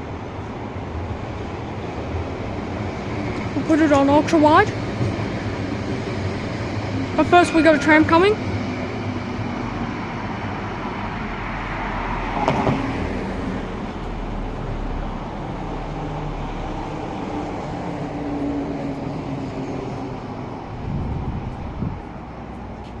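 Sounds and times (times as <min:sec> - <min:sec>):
road traffic: 0:00.0 - 0:23.0
tram passing: 0:00.0 - 0:23.0.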